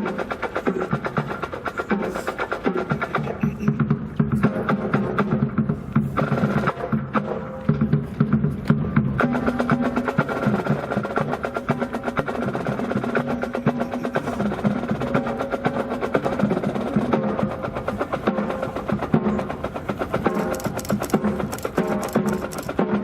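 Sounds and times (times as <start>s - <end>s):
band music: 0.0s - 23.0s
snare drum and wood-block strikes: 0.0s - 23.0s.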